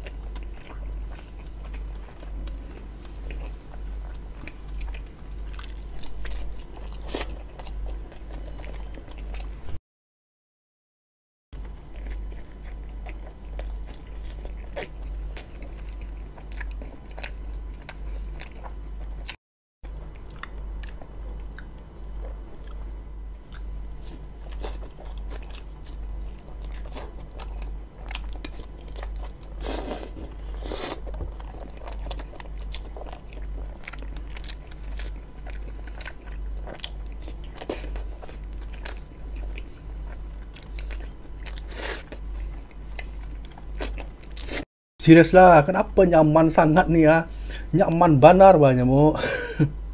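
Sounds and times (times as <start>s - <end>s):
chewing and biting bread: 0.0s - 9.6s, 11.6s - 44.6s.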